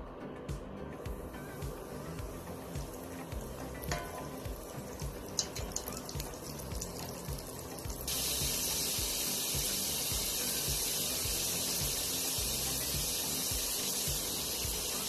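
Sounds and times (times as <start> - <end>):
background music: 0.0 - 15.0
chicken deep-frying in oil: 1.1 - 15.0.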